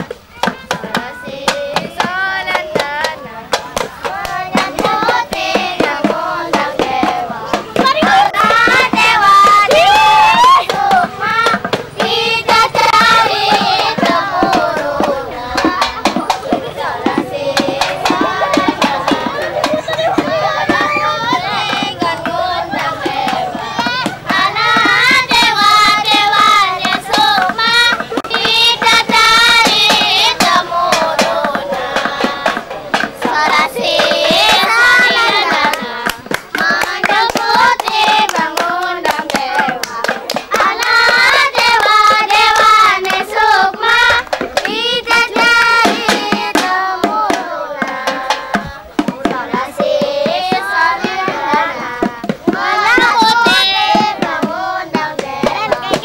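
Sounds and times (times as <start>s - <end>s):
hand clapping: 0.0s - 9.9s, 10.6s - 56.0s
voices singing together: 0.0s - 56.0s.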